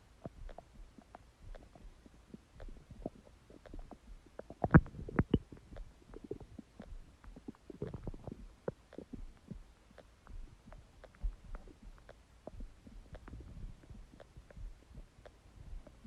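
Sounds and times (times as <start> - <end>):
stomach growling and gurgling: 0.1 - 16.0.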